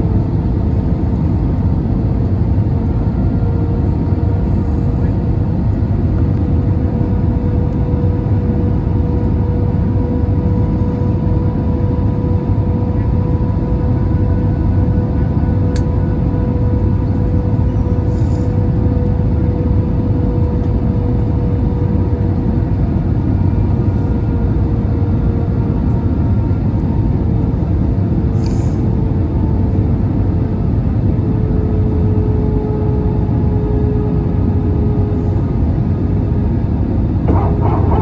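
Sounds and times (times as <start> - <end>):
aircraft cabin engine rumble: 0.0 - 38.0
steady engine whine: 0.0 - 38.0.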